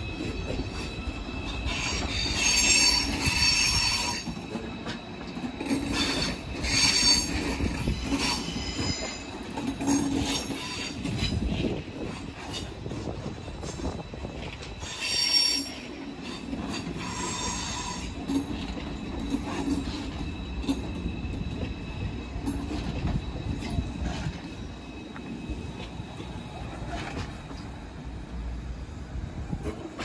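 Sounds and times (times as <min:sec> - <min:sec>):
high-pitched wheel squeal: 0:00.0 - 0:11.4, 0:14.6 - 0:27.2
train wheels rumbling on rail: 0:00.0 - 0:30.0.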